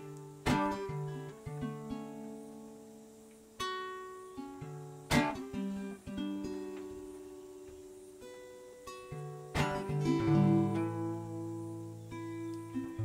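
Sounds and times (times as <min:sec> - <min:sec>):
acoustic guitar playing slowly: 0:00.0 - 0:13.0.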